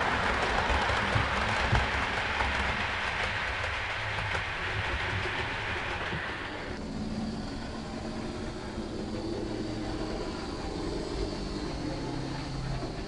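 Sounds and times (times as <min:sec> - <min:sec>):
model locomotive humming: 0:00.0 - 0:13.0.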